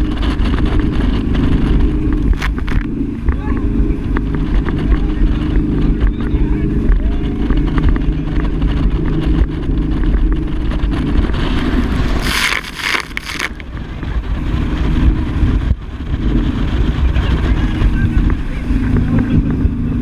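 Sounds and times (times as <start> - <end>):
speedboat engine running: 0.0 - 20.0
wind buffeting microphone: 0.0 - 20.0.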